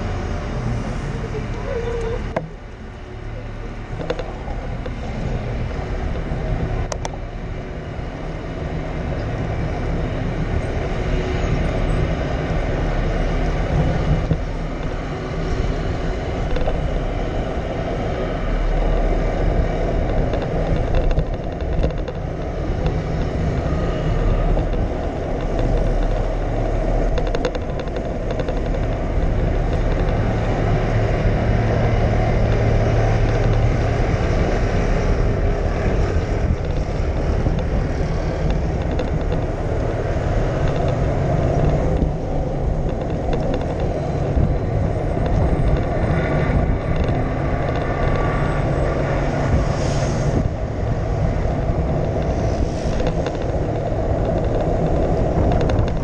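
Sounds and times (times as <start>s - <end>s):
bicycle tyre and road noise: 0.0s - 56.0s
wind rushing over microphone: 0.0s - 56.0s.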